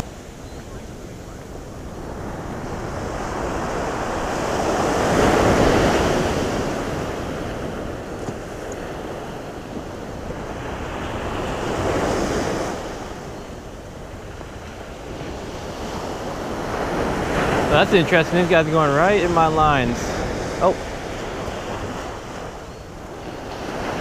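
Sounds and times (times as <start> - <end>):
waves breaking on sand: 0.0 - 24.0
wind buffeting microphone: 0.0 - 24.0.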